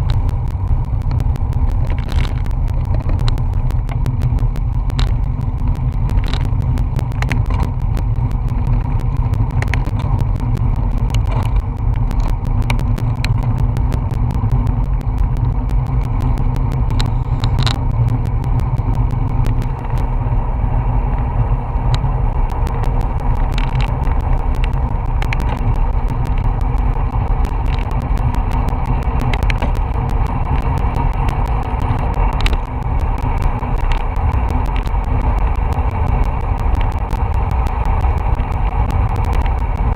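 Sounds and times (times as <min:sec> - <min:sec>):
small clicks: 0:00.0 - 0:20.1, 0:21.9 - 0:39.9
road and tyre noise: 0:00.0 - 0:39.9.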